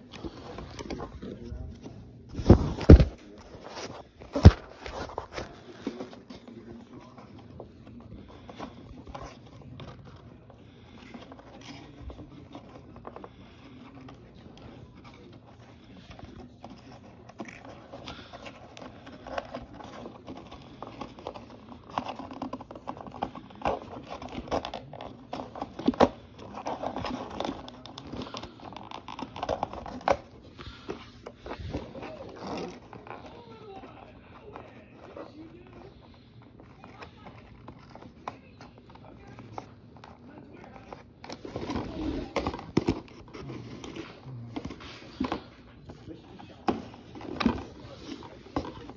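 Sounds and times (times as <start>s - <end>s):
cardboard scraping and crinkling: 0.0s - 48.9s.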